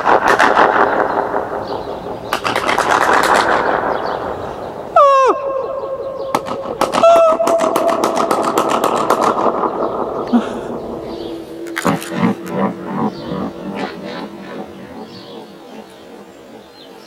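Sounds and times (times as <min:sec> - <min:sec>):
sharp sounds with flutter echo: 0:00.0 - 0:17.0.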